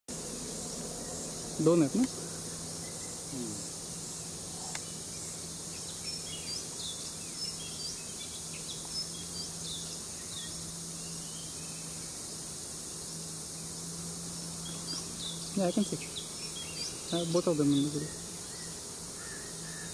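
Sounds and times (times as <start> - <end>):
insects hissing: 0.1 - 19.9
birds chirping: 0.2 - 19.9.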